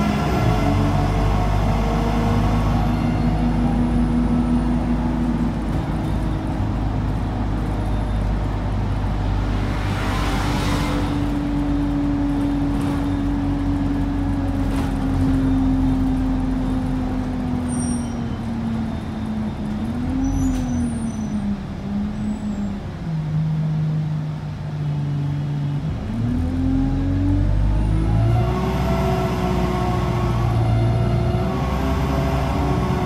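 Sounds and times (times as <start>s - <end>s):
bus engine and road noise: 0.0s - 33.0s
bus whine: 0.0s - 33.0s.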